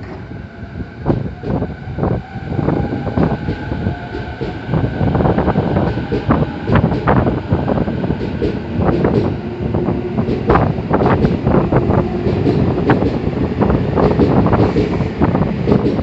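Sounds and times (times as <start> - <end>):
train rumble: 0.0 - 16.0
train wheels knocking on rail joints: 1.1 - 16.0.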